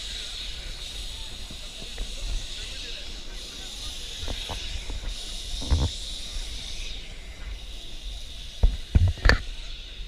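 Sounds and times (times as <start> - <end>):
tram running hiss and wind: 0.0 - 10.0.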